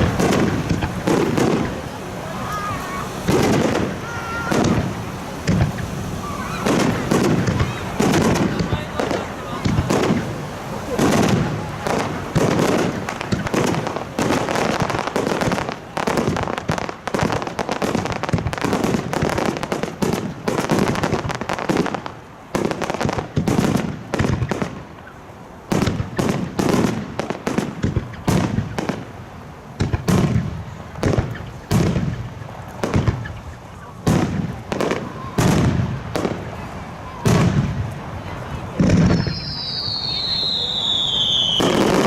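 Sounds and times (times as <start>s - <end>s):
fireworks booming and crackling: 0.0s - 42.0s.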